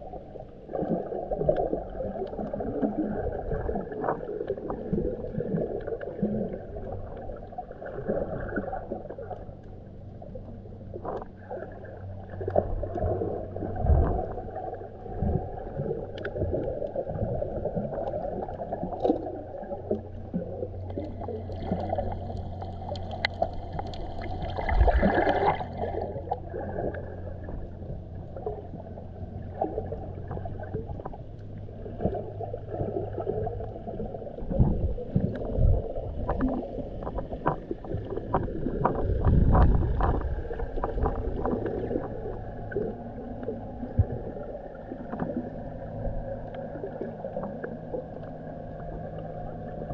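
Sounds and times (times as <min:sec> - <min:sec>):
crackle of small clicks: 0:00.0 - 0:49.9
muffled underwater sloshing: 0:00.0 - 0:49.9
steady low hum: 0:00.0 - 0:49.9.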